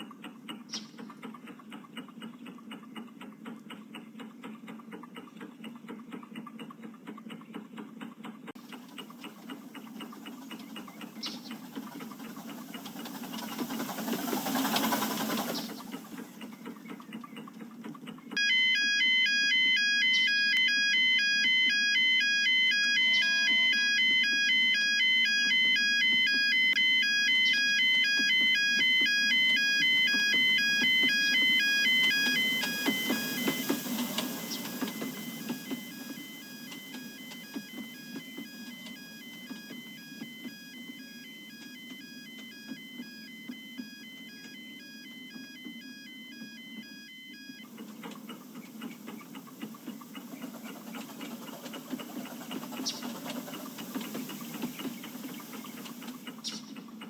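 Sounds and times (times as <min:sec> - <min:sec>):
miniature steam engine chuffing: 0:00.0 - 0:40.6, 0:47.7 - 0:57.0.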